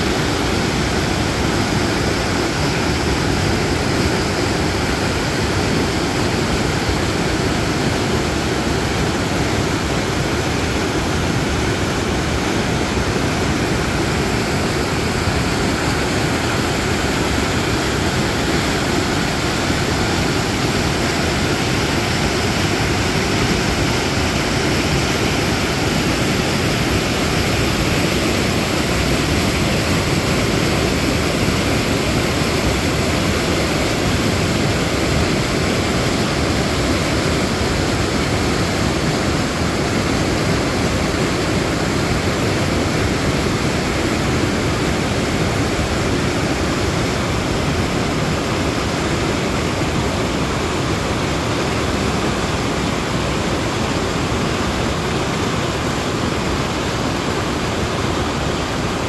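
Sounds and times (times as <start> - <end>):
water rushing over weir: 0.0 - 59.0.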